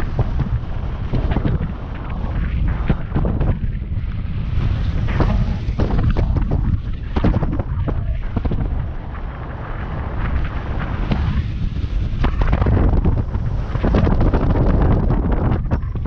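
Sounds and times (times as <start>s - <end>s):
gusts thumping microphone: 0.0s - 16.0s
wind rumbling over microphone: 0.0s - 16.0s.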